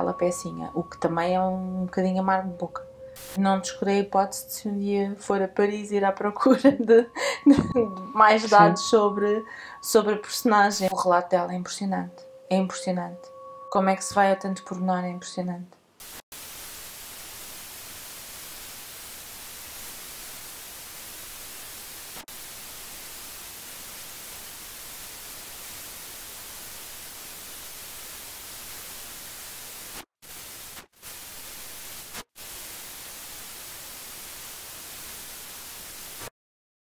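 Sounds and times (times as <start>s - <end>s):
white noise static hiss: 0.0s - 13.2s, 13.8s - 36.3s.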